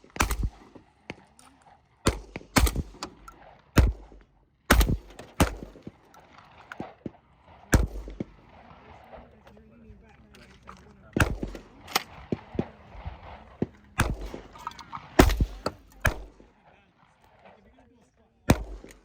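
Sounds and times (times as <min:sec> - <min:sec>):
gunshots hitting steel targets: 0:00.0 - 0:09.4, 0:10.6 - 0:16.6, 0:18.5 - 0:19.0.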